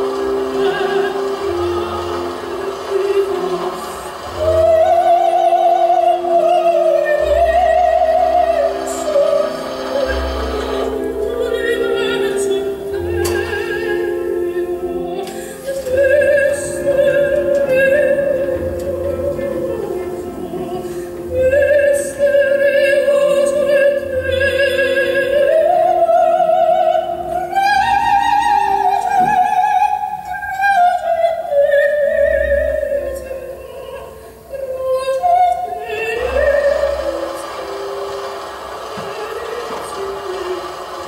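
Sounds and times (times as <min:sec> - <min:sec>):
operatic singing: 0:00.0 - 0:41.0
soft sustained accompaniment: 0:00.0 - 0:41.0.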